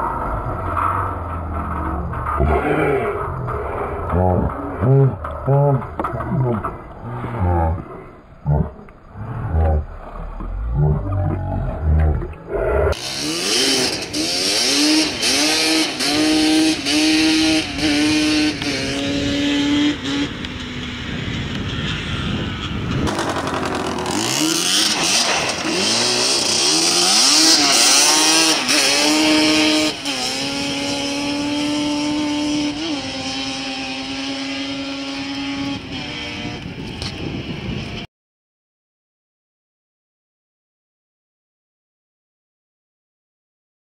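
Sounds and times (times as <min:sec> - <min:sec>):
quad engine accelerating: 0:00.0 - 0:38.1.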